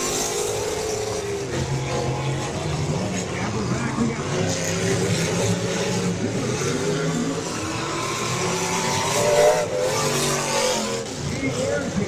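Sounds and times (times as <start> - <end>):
car engine revving: 0.0 - 12.0
car engines running: 0.0 - 12.0.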